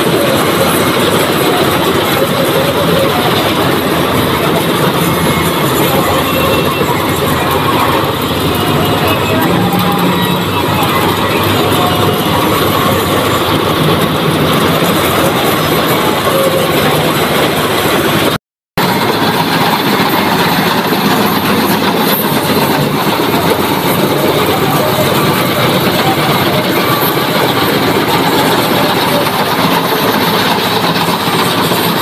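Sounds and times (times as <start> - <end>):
combine harvester engine and threshing: 0.0 - 32.0.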